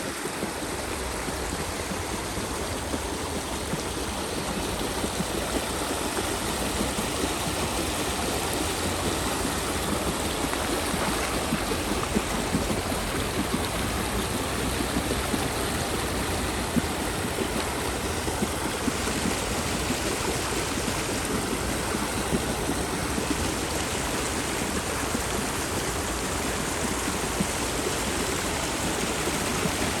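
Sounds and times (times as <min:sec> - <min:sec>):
water splashing off water wheel: 0:00.1 - 0:30.0.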